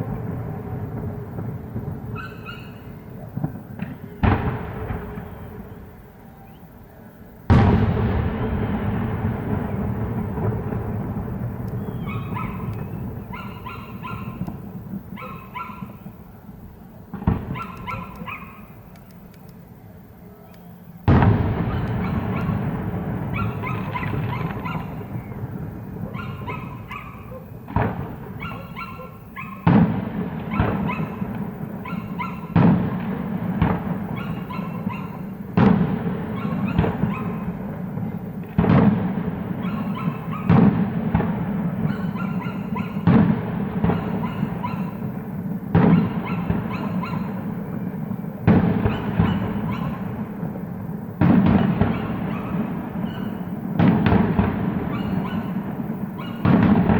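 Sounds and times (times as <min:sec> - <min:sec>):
fireworks booming: 0:00.0 - 0:56.9.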